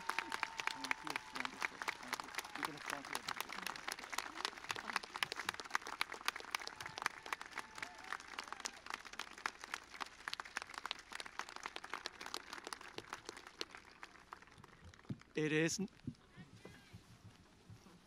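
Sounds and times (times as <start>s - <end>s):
crowd applauding: 0.0s - 15.8s.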